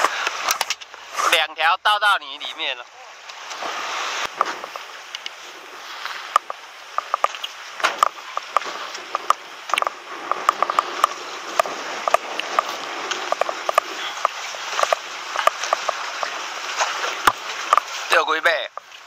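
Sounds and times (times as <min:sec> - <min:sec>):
water splashing and lapping: 0:00.0 - 0:19.0.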